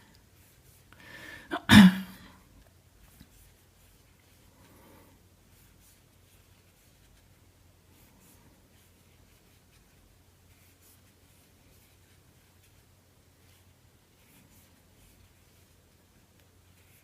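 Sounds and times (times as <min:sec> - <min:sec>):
crochet hook rustling yarn: 0:00.0 - 0:01.0, 0:02.5 - 0:17.0
low steady hum: 0:00.0 - 0:17.0.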